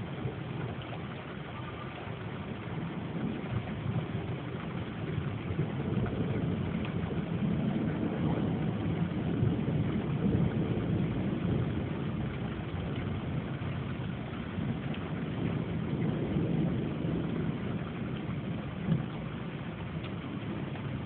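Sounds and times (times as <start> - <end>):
rain: 0.0 - 21.0
rolling thunder rumble: 0.0 - 21.0.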